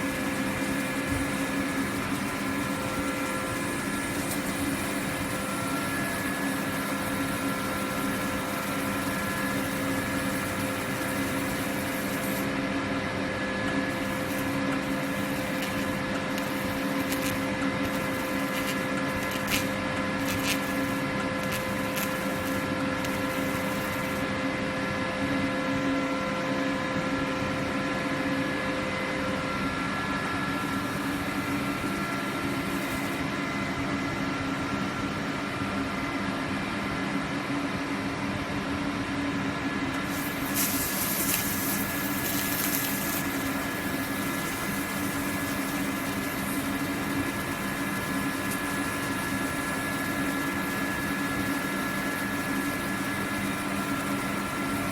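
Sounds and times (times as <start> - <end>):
laser cutting machine humming: 0.0 - 36.4, 38.6 - 54.9.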